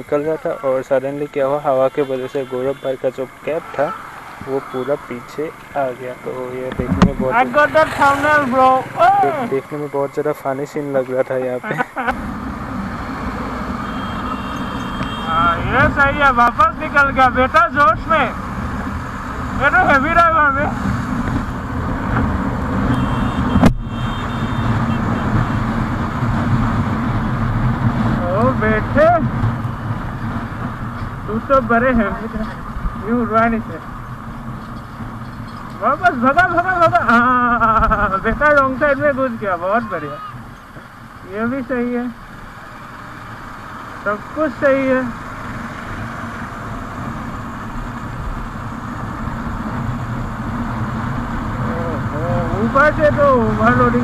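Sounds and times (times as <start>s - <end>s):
motorcycle engine and road rumble: 0.0s - 54.0s.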